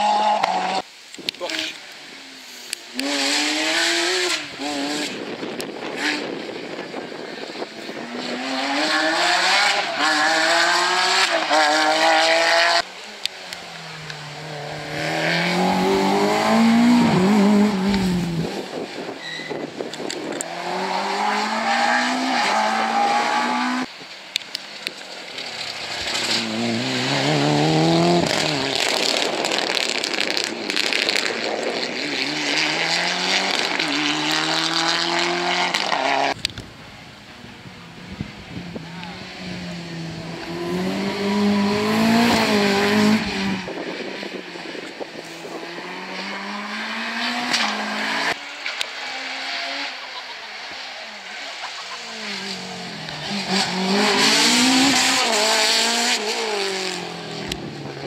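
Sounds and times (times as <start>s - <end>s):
rally car engines revving: 2.7s - 58.0s.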